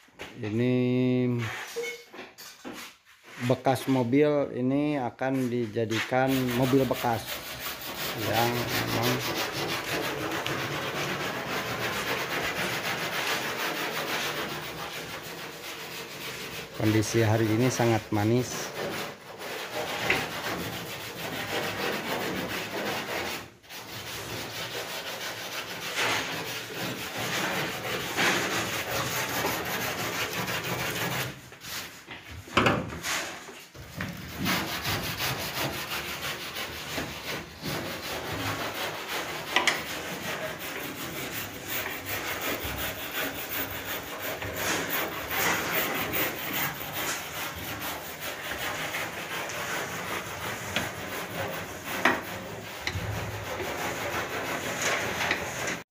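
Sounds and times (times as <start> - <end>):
rough scraping and rubbing: 0.9 - 1.8, 2.7 - 32.2, 32.9 - 55.9.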